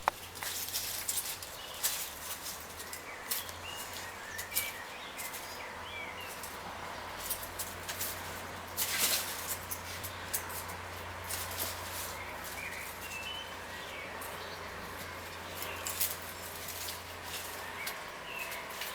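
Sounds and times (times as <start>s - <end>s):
kittens scuffling and tapping: 0.0s - 18.9s.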